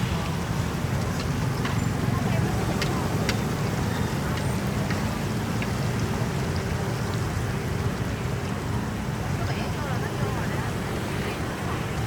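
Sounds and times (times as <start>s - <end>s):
low street market rumble: 0.0s - 12.0s.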